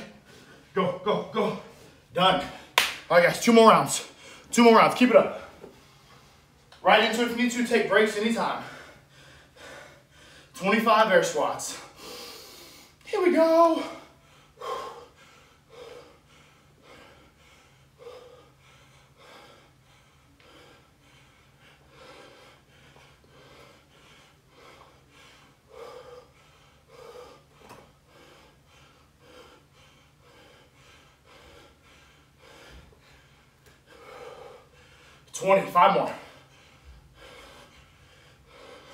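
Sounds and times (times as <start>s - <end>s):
man breathing hard in puffs: 0.0s - 2.8s, 3.9s - 4.6s, 5.2s - 13.1s, 13.8s - 38.9s.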